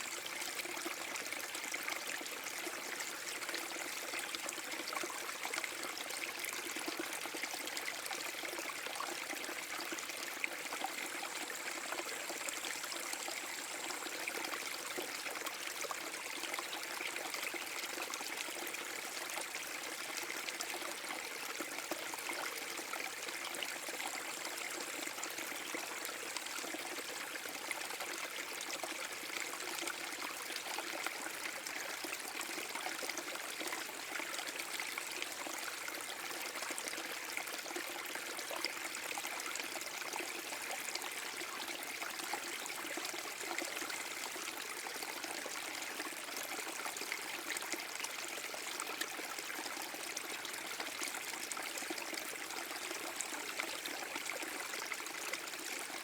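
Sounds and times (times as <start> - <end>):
brook flowing over small waterfall: 0.0 - 56.0.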